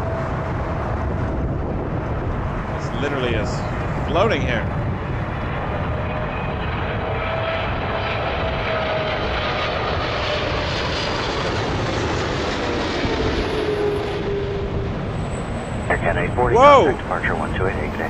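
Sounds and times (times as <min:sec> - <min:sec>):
airliner engines roaring overhead: 0:00.0 - 0:18.0.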